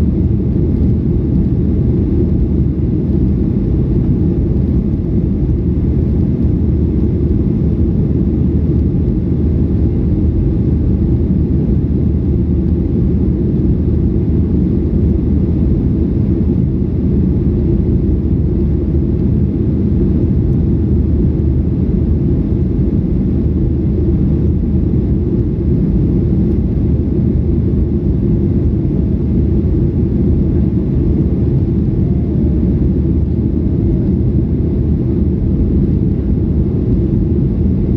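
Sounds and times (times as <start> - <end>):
jet airliner engine rumble: 0.0 - 37.9.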